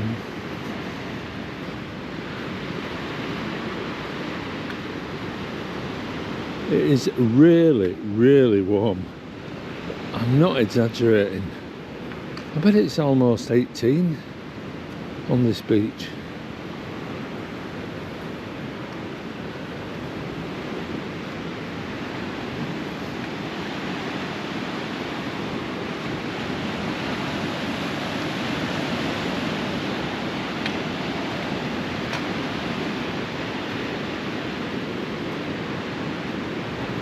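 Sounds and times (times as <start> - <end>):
sea surf on rocky shore: 0.0 - 37.0.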